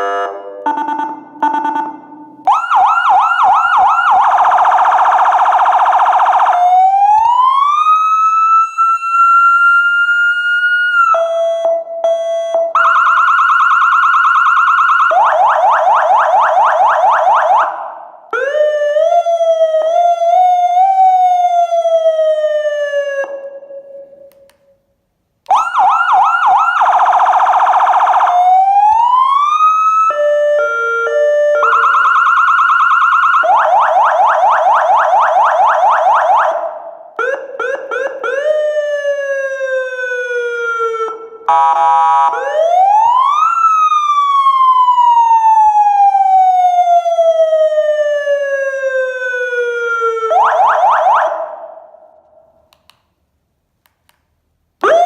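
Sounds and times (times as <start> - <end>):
electronic vehicle siren: 0.0 - 24.0, 25.5 - 51.8.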